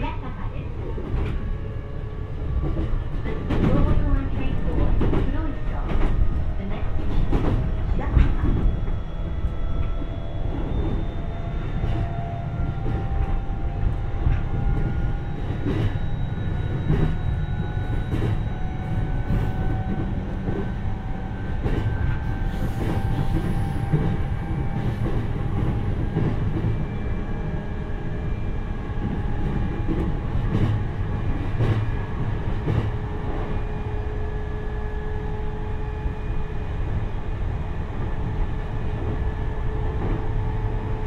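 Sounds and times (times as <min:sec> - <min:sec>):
train interior rumble: 0:00.0 - 0:41.0.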